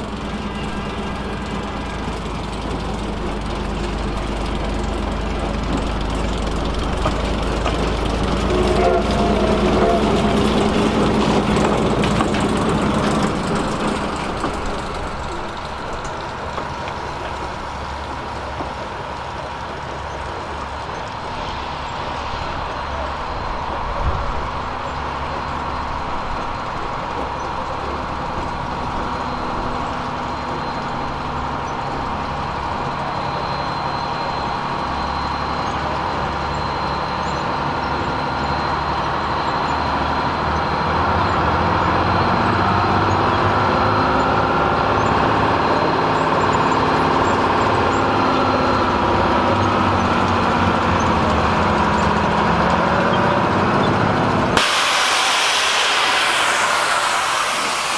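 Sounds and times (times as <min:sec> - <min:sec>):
diesel locomotive engine passing: 0:00.0 - 0:57.9.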